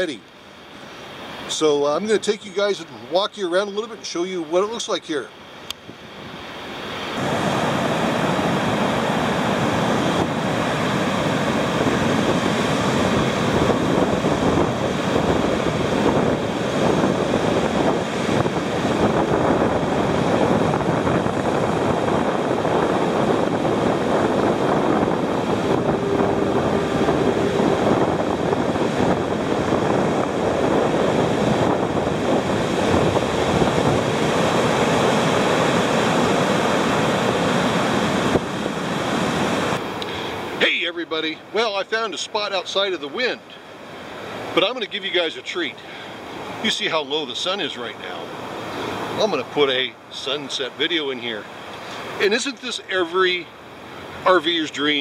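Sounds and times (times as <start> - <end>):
wind blowing over microphone: 0.0 - 55.0
surf breaking on beach: 5.8 - 55.0.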